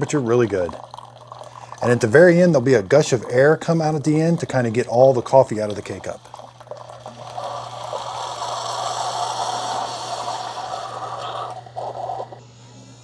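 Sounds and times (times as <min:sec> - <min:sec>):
coffee maker air purge rush: 0:00.0 - 0:13.0.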